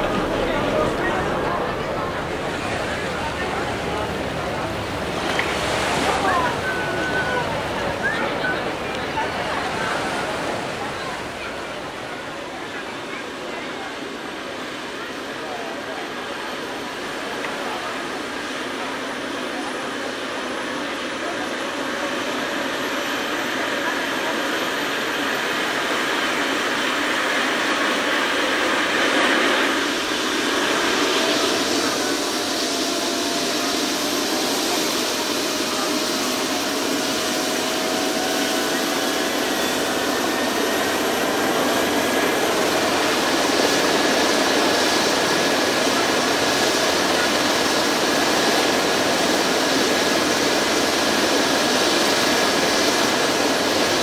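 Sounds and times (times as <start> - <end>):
helicopter turbine whine and rotor: 0.0 - 54.0.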